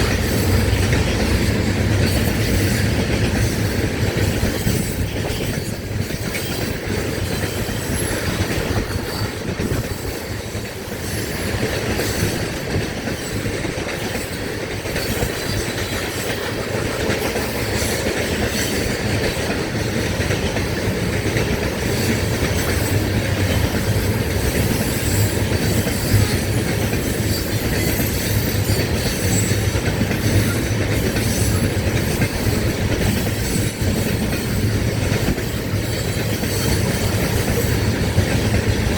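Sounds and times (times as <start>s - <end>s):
steel wheels rumbling on rail: 0.0s - 38.9s
wheels clacking over rail joints: 0.0s - 38.9s.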